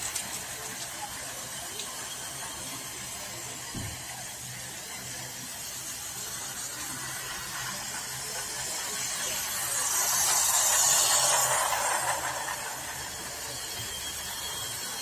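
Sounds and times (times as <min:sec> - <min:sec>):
toy train running on track: 0:00.0 - 0:15.0.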